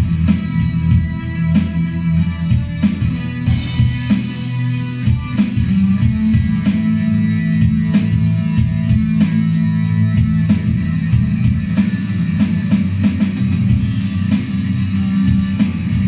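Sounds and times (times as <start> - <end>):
drums: 0.0 - 16.0
electric guitar rock riff: 0.0 - 16.0.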